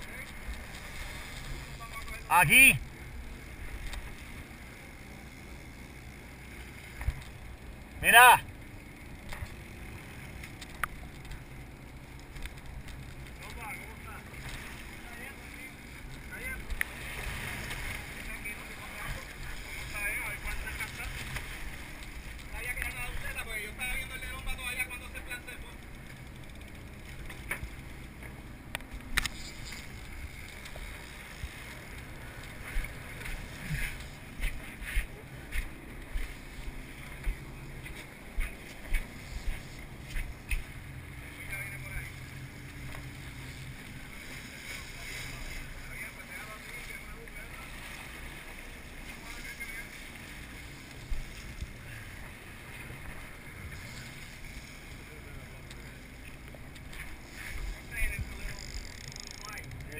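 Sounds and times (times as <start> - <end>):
boat diesel engines: 0.0 - 59.9
water rushing along hull: 0.0 - 59.9.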